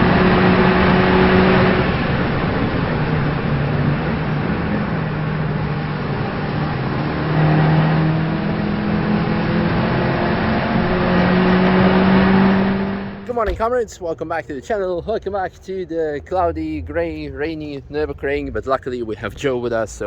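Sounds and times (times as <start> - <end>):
car engine running: 0.0 - 20.0
road and tyre noise: 0.0 - 20.0.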